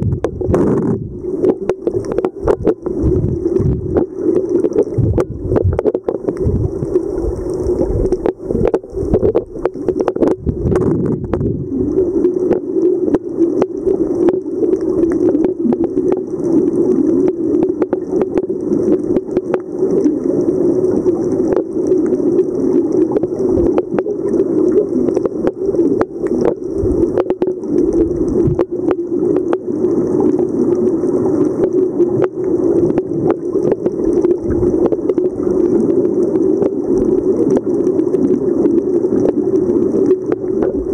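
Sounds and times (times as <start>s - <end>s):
dull underwater rumble: 0.0s - 40.9s
small clicks and crackles: 0.1s - 40.9s.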